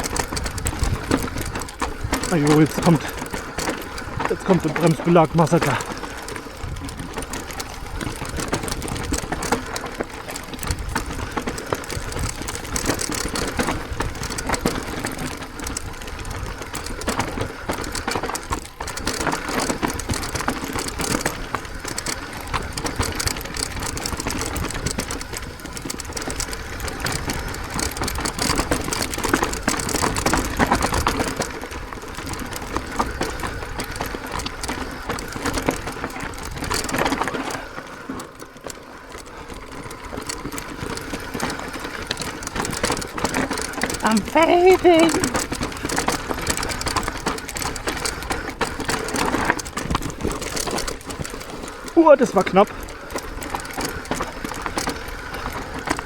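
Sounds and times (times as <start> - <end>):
bike rattling over rocky ground: 0.0 - 56.0
disc brakes grinding: 0.0 - 56.0.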